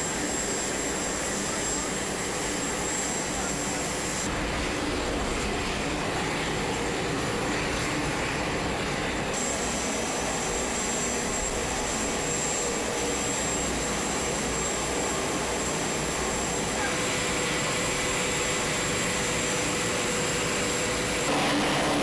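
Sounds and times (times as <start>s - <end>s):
aircraft engine roar: 0.0s - 22.0s.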